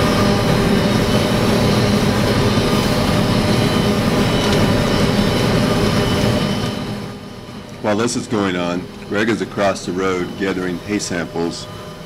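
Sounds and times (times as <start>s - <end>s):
harvester engine drone: 0.0s - 12.0s
machine whining tones: 0.0s - 12.0s.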